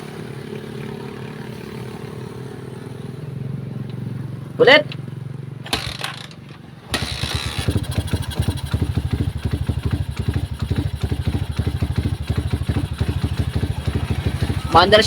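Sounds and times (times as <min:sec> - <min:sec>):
motorcycle engine pulsing: 0:02.9 - 0:15.0.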